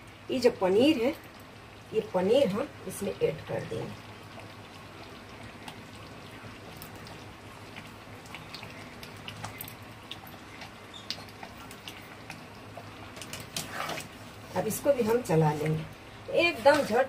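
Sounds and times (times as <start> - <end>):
gravy simmering with pops: 0.0 - 17.0
low steady hum: 0.0 - 17.0.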